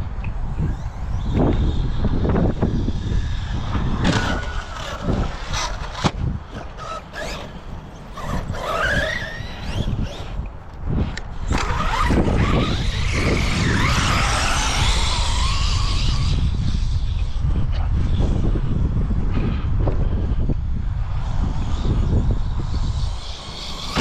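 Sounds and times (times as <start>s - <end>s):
rc car motor whine: 0.0s - 24.0s.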